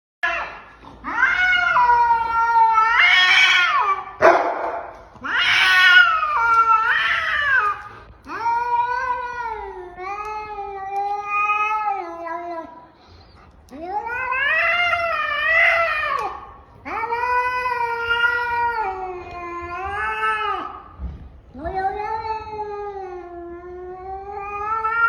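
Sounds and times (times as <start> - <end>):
cat yowling: 0.2 - 4.2, 5.2 - 12.8, 13.7 - 20.9, 21.6 - 25.0.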